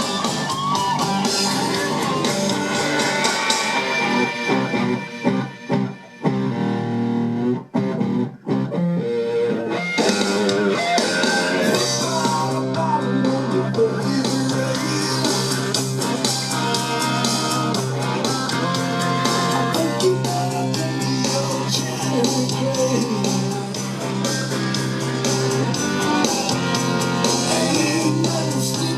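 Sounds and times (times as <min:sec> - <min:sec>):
guitar-led rock music: 0:00.0 - 0:28.9.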